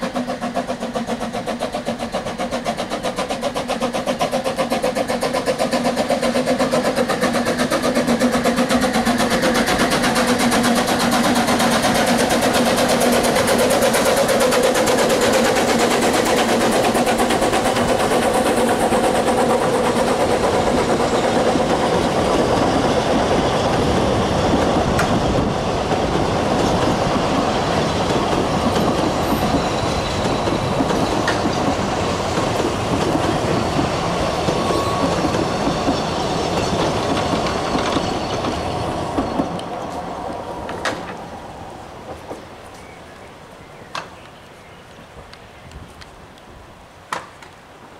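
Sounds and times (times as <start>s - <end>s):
carriage wheels rattling on rails: 0.0s - 39.9s
steam locomotive passing: 0.0s - 47.9s.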